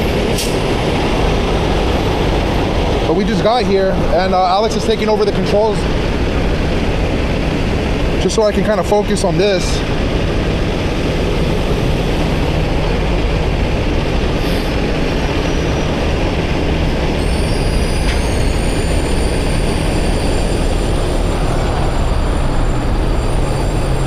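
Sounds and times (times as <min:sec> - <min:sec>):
diesel engine rumbling: 0:00.0 - 0:24.0
high whine: 0:00.0 - 0:24.0.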